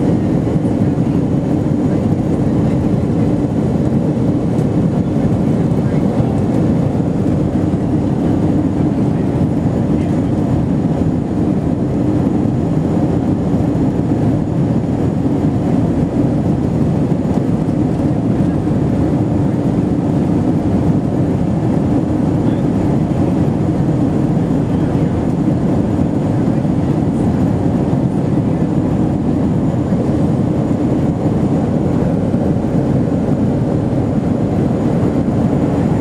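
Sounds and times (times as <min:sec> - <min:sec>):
air rushing over fuselage: 0:00.0 - 0:36.0
airliner cabin engine drone: 0:00.0 - 0:36.0.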